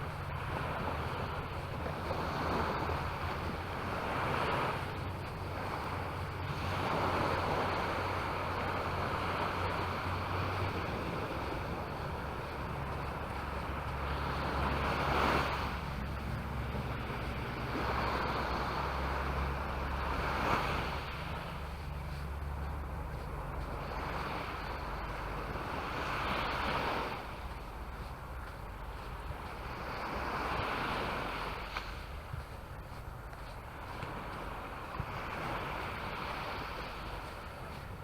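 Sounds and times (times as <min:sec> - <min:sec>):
sea waves breaking on shore: 0:00.0 - 0:38.0
steady low hum: 0:00.0 - 0:38.0.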